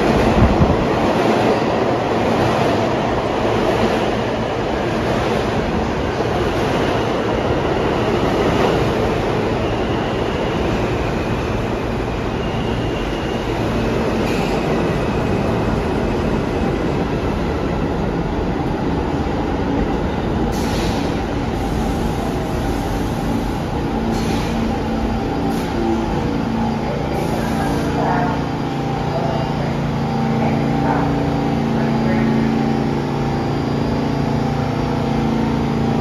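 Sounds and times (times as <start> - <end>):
subway train wheels rumbling: 0.0 - 36.0
train slowing to a stop: 0.0 - 36.0.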